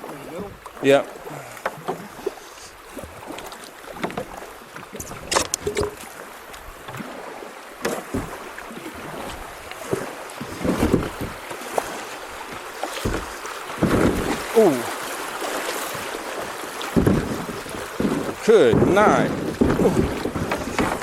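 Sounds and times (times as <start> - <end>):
paddle strokes splashing: 0.0 - 21.0
rushing water: 0.0 - 21.0.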